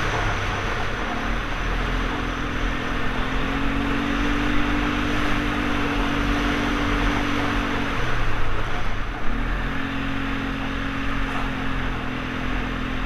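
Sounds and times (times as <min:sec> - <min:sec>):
atv engine running: 0:00.0 - 0:13.0
wind and tyres rushing: 0:00.0 - 0:13.0.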